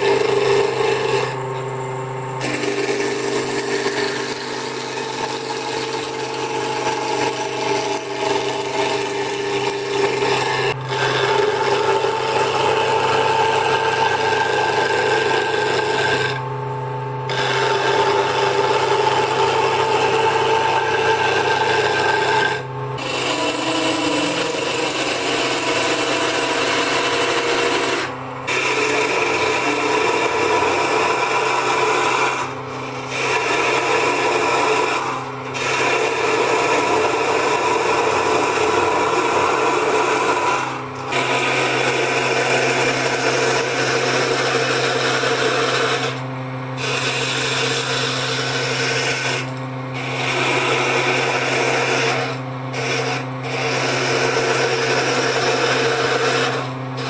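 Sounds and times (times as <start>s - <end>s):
gouge scraping spinning wood: 0.0s - 57.0s
wood lathe humming: 0.0s - 57.0s.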